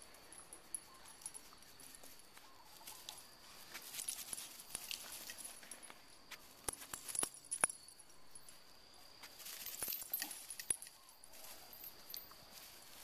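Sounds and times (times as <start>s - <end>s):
light metallic jingling: 0.0s - 13.0s.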